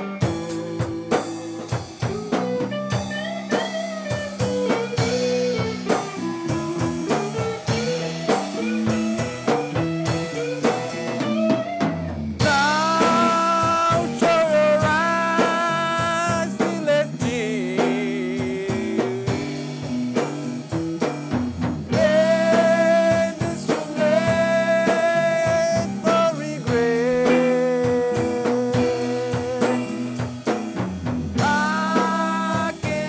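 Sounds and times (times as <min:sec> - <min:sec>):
bass guitar: 0:00.0 - 0:33.0
drum kit beat: 0:00.0 - 0:33.0
lead guitar bending notes: 0:00.0 - 0:33.0.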